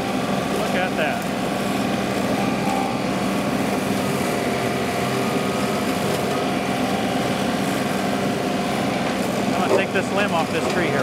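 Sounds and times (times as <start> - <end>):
rotary mower cutting grass: 0.0 - 11.0
tractor diesel engine drone: 0.0 - 11.0.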